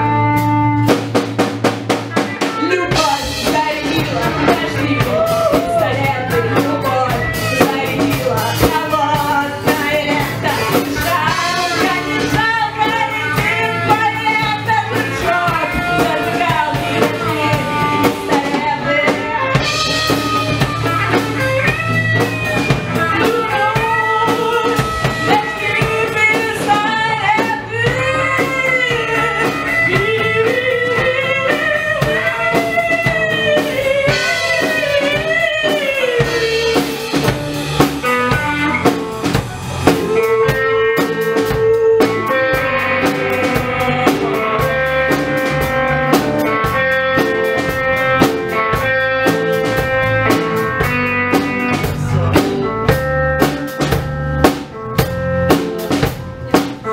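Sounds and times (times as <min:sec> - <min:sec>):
live rock band: 0:00.0 - 0:56.9
woman singing: 0:02.2 - 0:53.0.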